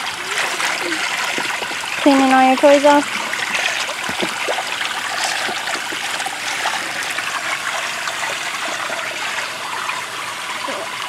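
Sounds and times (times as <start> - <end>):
small water splashes: 0.0 - 11.0
water running and trickling: 0.0 - 11.0.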